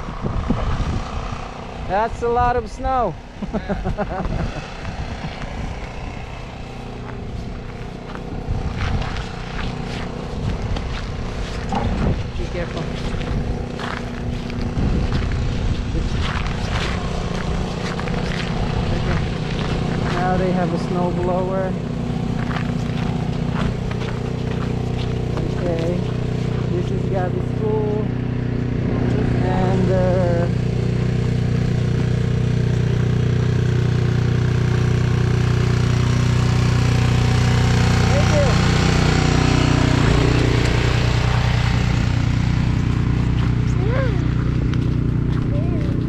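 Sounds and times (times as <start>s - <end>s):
snow blower engine running: 0.0s - 46.0s.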